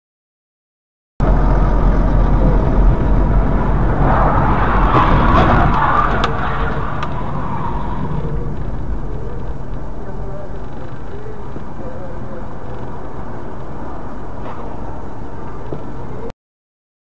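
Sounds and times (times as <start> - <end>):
car engine and tyres rumbling: 1.2 - 16.3.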